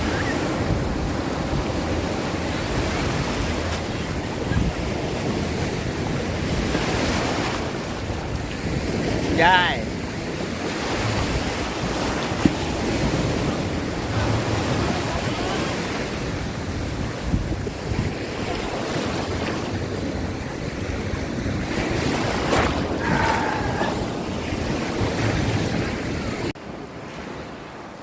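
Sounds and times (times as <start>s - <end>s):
wind buffeting microphone: 0.0s - 26.5s
sea surf washing: 0.0s - 28.0s.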